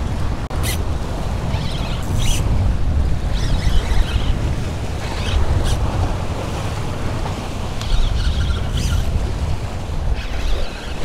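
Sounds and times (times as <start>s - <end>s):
surf washing against rocks: 0.0s - 11.0s
wind buffeting microphone: 0.0s - 11.0s.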